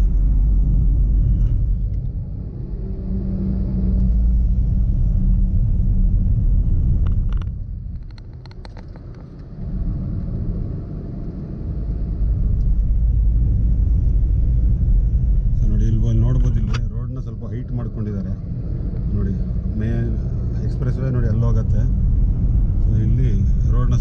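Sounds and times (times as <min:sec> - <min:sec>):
vehicle road rumble: 0:00.0 - 0:24.0.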